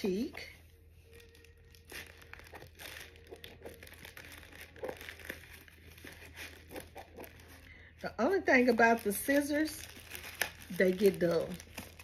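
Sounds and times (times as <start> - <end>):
packaging crinkling and rustling: 1.0 - 12.0.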